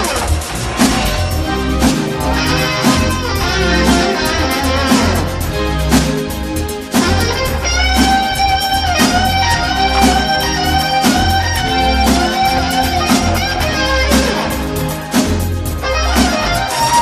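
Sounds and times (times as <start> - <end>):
sliding lead melody: 0.0 - 17.0
steady beat: 0.0 - 17.0.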